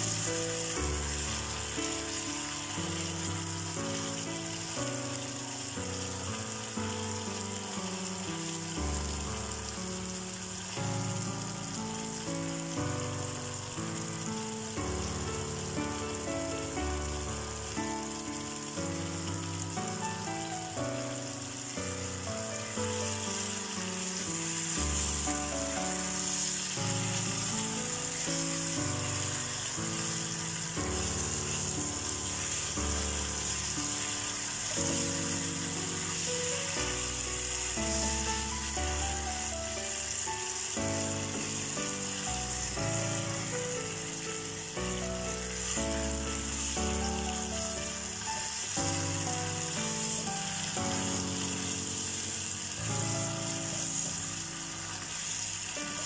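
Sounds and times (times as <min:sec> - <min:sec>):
chicken sizzling in pan: 0:00.0 - 0:56.0.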